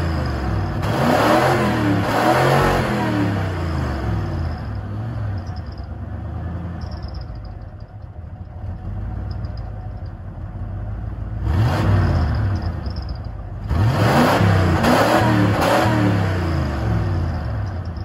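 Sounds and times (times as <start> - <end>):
pickup truck exhaust idling and revving: 0.0 - 18.0.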